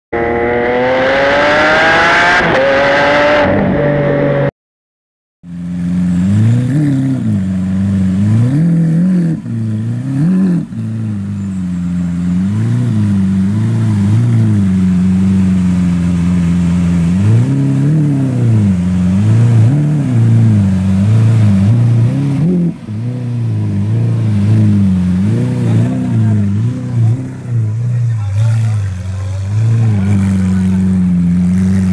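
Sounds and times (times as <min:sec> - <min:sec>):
sports car engine revving: 0:00.2 - 0:04.5, 0:05.5 - 0:31.9.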